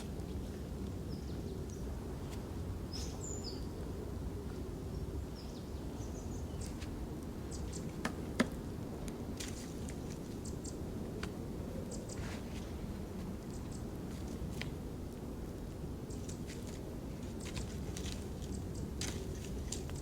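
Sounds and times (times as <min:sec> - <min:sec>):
low outdoor background noise: 0:00.0 - 0:20.0.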